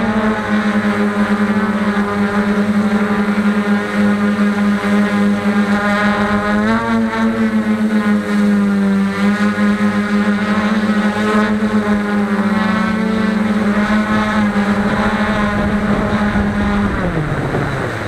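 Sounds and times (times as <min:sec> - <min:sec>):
quadcopter motors droning: 0:00.0 - 0:18.0.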